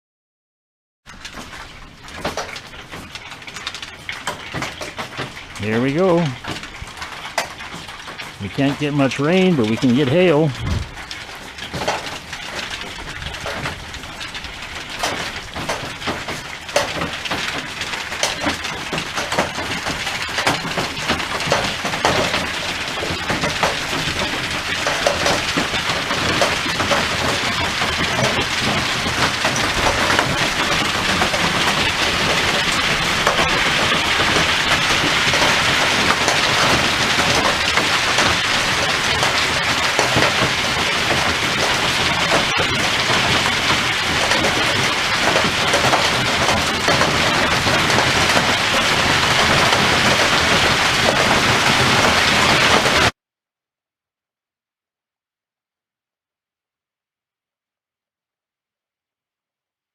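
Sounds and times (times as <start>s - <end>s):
hail and rain pelting: 1.1s - 53.2s
hailstones cracking: 1.1s - 53.2s.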